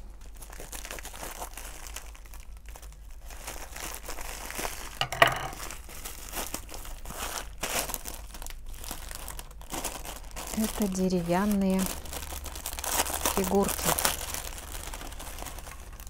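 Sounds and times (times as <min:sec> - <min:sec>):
plastic bag crackling: 0:00.2 - 0:16.0.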